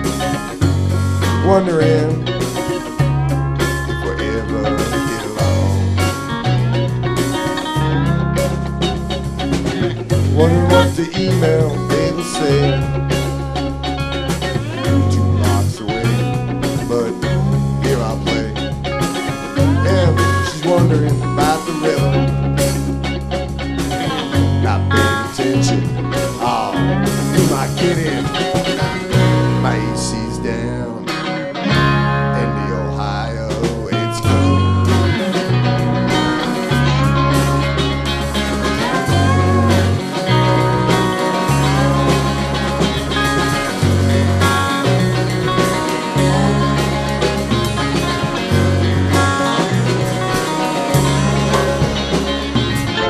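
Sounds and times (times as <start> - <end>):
lap steel guitar slide notes: 0.0 - 53.0
live blues-rock band: 0.0 - 53.0
repeating bass line: 0.0 - 53.0.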